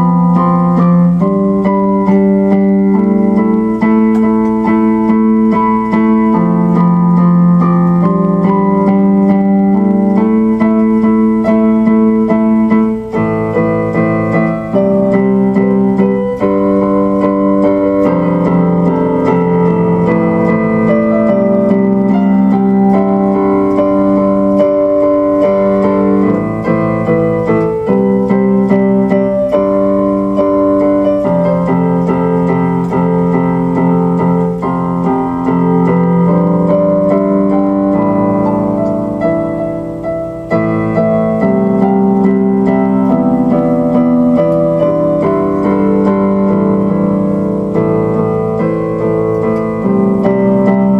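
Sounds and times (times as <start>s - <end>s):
electric piano chords: 0.0s - 50.9s.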